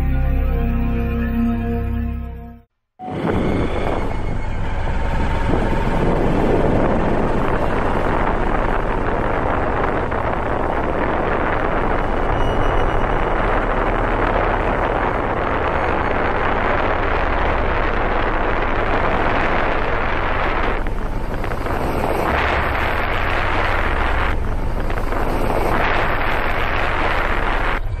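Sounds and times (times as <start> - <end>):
wind rushing on microphone: 3.0 - 28.0
vehicle running noise: 3.1 - 28.0.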